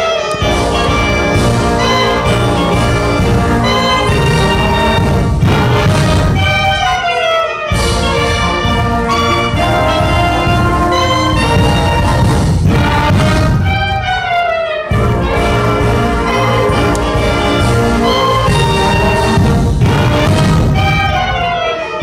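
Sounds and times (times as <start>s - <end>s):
concert band playing chords: 0.0s - 22.0s.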